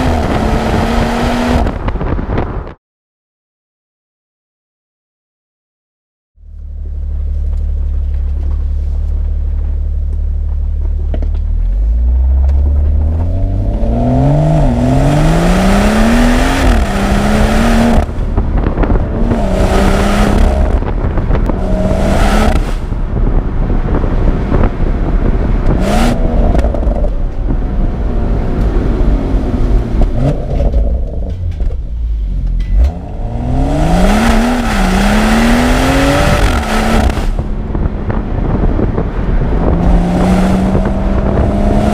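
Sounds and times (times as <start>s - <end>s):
car engine accelerating with upshifts: 0.0s - 2.5s, 6.5s - 41.9s.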